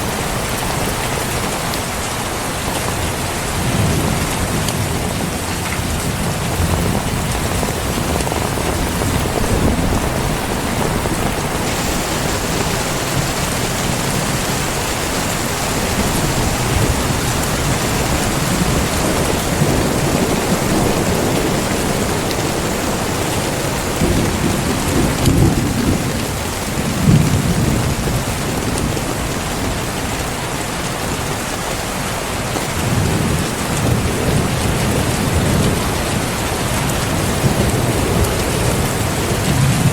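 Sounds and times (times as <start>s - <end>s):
heavy rain pouring: 0.0s - 39.9s
thunder rolling: 3.1s - 29.9s, 32.7s - 39.9s.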